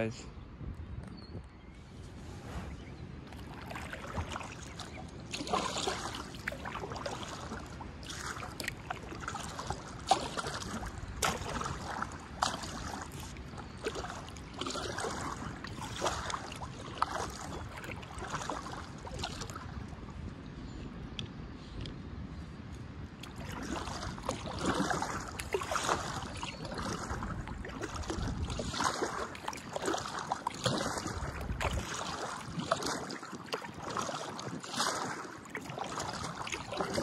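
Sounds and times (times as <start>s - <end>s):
kayak paddle strokes in water: 2.0s - 20.2s, 23.2s - 37.0s.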